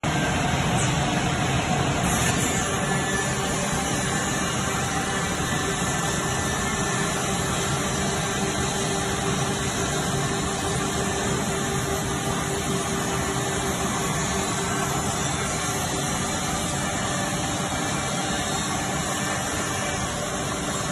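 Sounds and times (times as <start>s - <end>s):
woodworking machine whirring: 0.0s - 20.9s.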